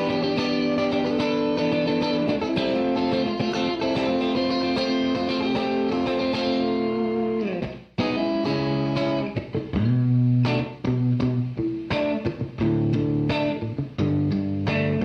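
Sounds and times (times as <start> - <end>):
clean electric guitar with reverb: 0.0 - 15.0.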